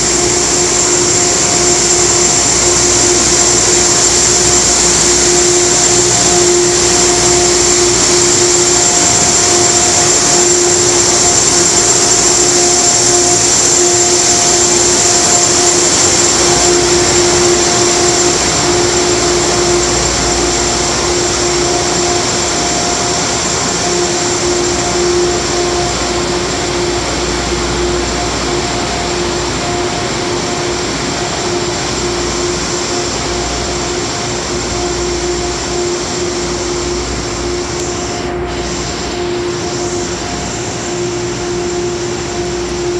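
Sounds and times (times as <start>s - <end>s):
locomotive fans and machinery whirring: 0.0s - 42.9s.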